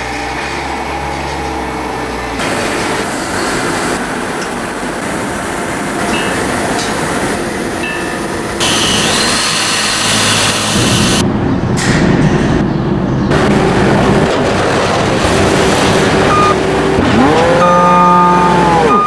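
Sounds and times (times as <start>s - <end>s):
factory machinery hiss and rumble: 0.0s - 17.4s.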